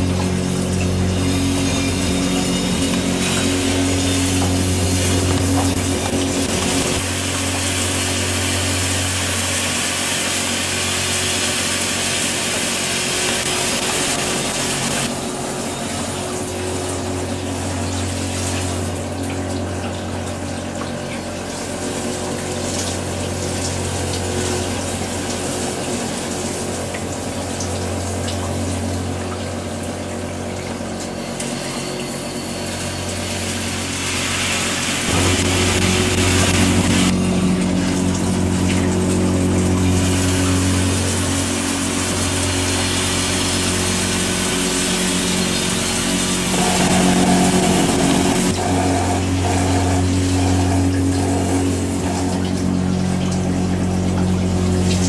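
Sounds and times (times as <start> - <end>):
dishwasher motor humming: 0.0 - 55.0
water spraying and splashing: 0.0 - 55.0.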